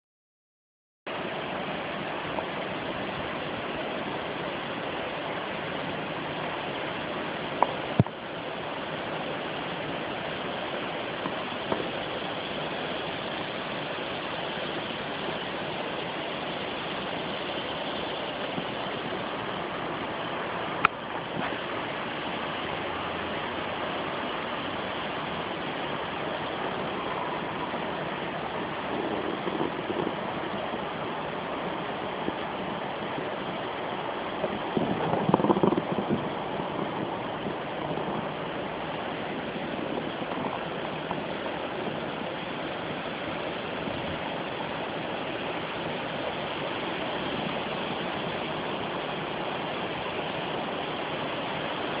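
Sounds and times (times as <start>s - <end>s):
stream rushing: 1.1s - 52.0s.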